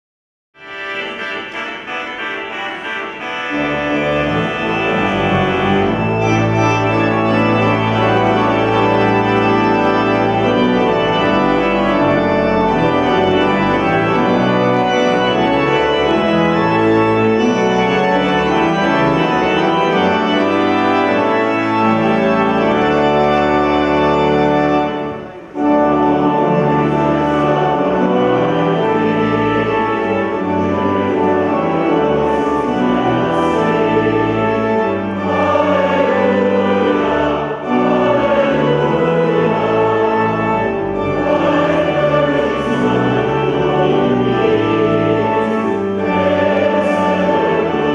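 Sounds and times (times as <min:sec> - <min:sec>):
church organ chords: 0:00.6 - 0:47.9.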